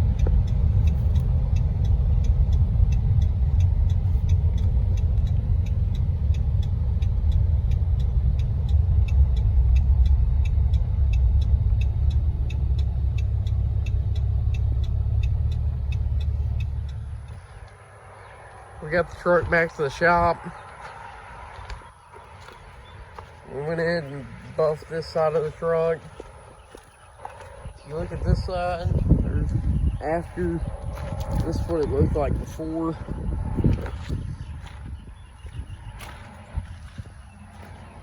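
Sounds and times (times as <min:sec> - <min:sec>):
faint regular ticking: 0:00.0 - 0:34.2
vehicle driving on road: 0:00.0 - 0:38.0.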